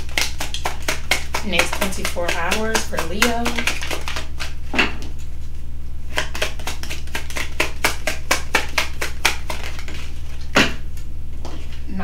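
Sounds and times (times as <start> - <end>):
cards being shuffled: 0.0 - 10.5
low hum: 0.0 - 12.0.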